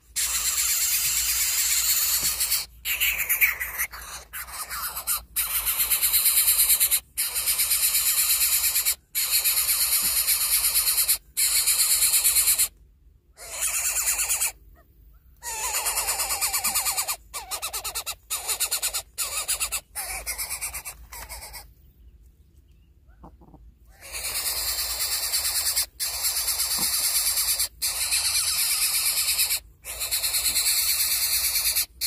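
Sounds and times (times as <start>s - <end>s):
nestling bird begging call: 0.1s - 12.7s, 13.4s - 14.6s, 15.4s - 21.7s, 23.9s - 32.0s.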